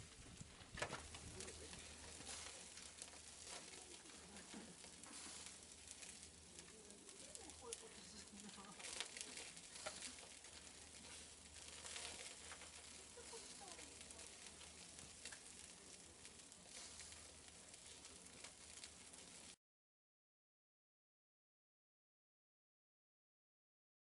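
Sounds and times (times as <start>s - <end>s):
food sizzling on a grill: 0.0s - 19.6s
small crackles: 0.0s - 19.6s.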